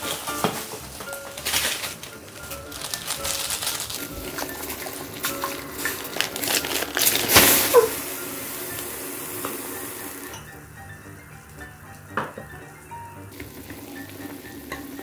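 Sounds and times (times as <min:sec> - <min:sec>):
background music: 0:00.0 - 0:15.0
running water rushing: 0:00.0 - 0:15.0.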